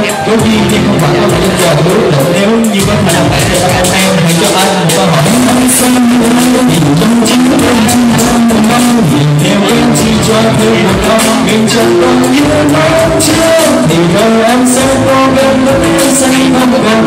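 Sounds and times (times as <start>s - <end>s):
backing track with steady beat: 0.0s - 17.0s
man singing into microphone: 0.0s - 17.0s.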